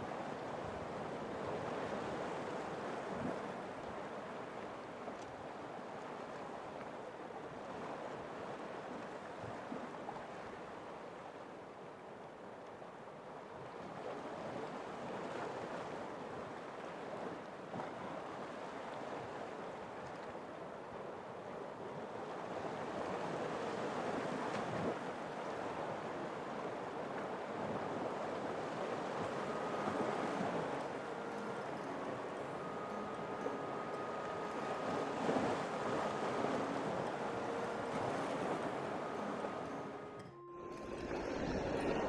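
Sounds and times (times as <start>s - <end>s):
sea surf on rocky shore: 0.0s - 11.5s, 14.0s - 42.0s.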